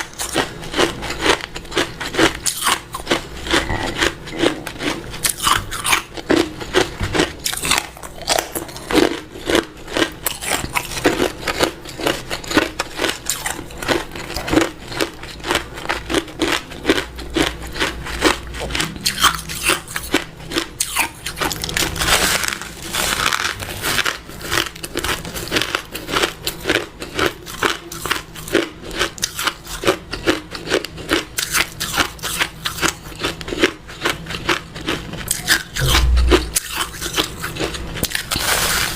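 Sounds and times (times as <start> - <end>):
person crunching ice cubes: 0.0 - 36.3.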